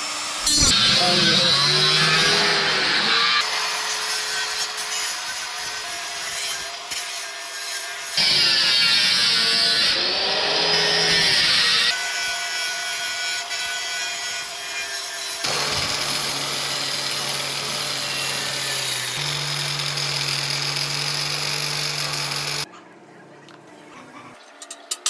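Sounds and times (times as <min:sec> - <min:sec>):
power tool running: 0:00.0 - 0:22.7.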